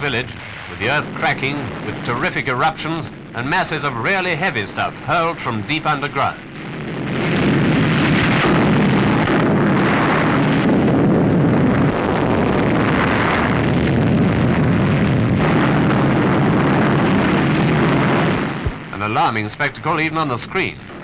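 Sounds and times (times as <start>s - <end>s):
eruption blasts: 0.0s - 21.0s
volcanic eruption roar: 0.0s - 21.0s.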